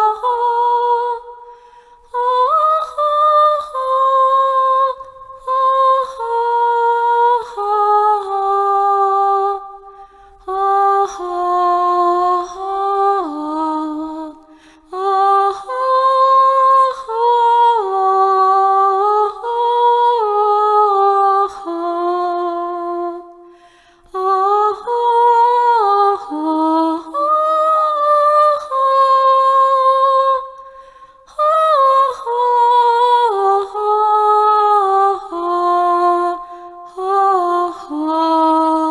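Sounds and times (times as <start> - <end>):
person singing wordless melody: 0.0 - 38.9.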